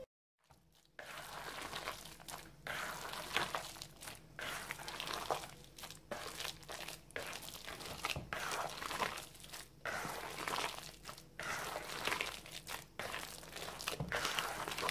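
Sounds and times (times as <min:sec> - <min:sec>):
hand squelching wet batter: 0:00.4 - 0:14.9.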